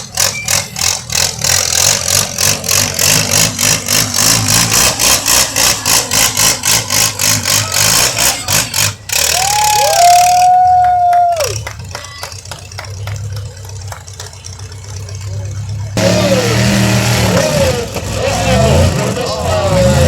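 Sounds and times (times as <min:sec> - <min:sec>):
loping vehicle engine: 0:00.0 - 0:20.0.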